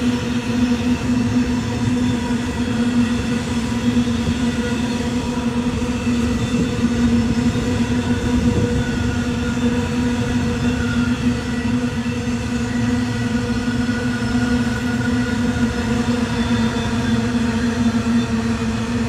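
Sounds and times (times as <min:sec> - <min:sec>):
droning hum: 0:00.0 - 0:19.0
train rumbling: 0:00.0 - 0:19.0.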